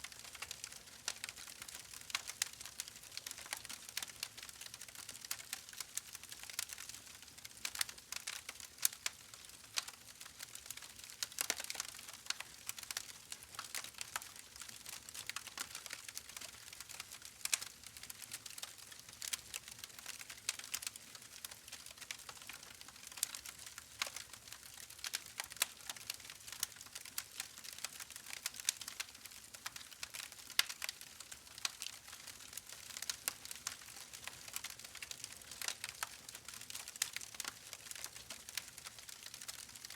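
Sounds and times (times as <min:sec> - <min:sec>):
soft irregular crackling: 0:00.0 - 0:39.9.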